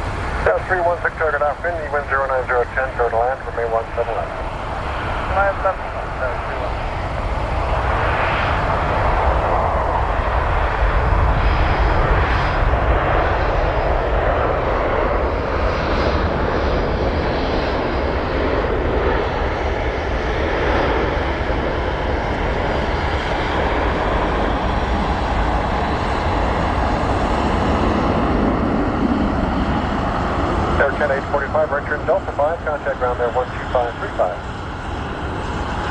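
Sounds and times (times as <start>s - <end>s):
jet engines landing: 0.0s - 35.9s.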